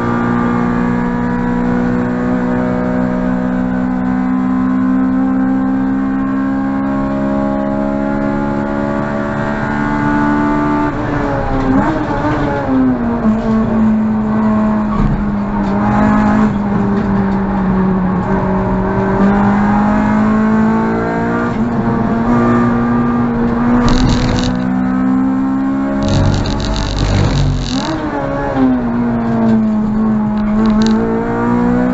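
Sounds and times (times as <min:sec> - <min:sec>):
car engine at high revs: 0:00.0 - 0:31.9.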